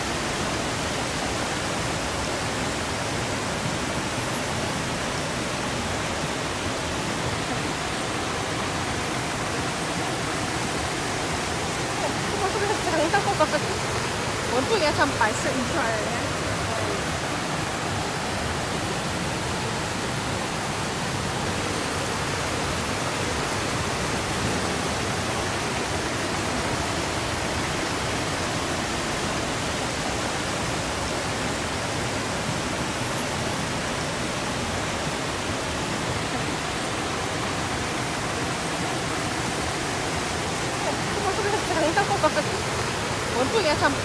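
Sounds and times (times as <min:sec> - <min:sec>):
stream rushing over boulders: 0:00.0 - 0:44.0.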